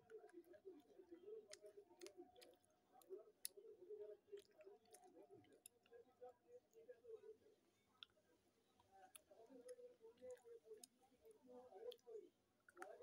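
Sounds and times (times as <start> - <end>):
chewing crunches and clicks: 0.0 - 13.0.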